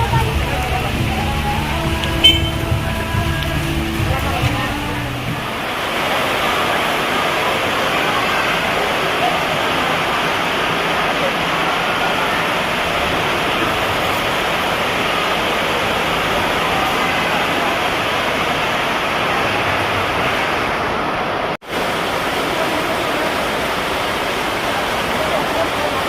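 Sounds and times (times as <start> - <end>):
loud steady rushing noise: 0.0 - 26.0.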